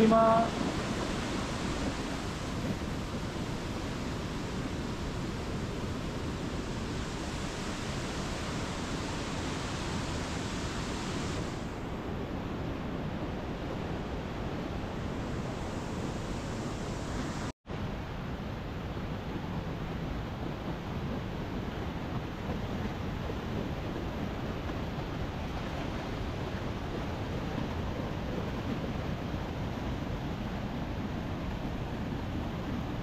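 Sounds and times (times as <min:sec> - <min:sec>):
river rushing over boulders: 0:00.0 - 0:33.0.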